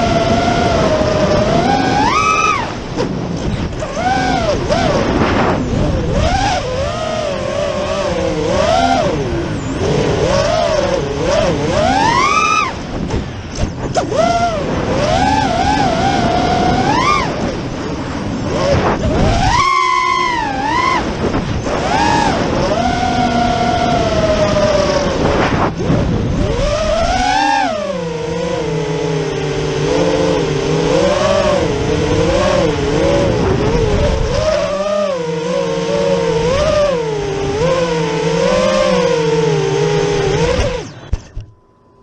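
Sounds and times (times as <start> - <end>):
drone motors whining: 0.0 - 42.0
prop wash and air noise: 0.0 - 42.0.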